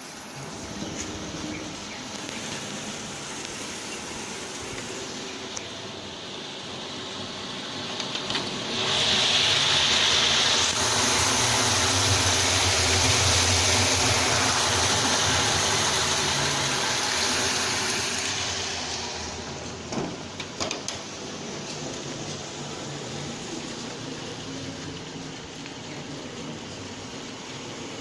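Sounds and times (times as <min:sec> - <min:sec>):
roasting machine running: 0:00.0 - 0:28.0.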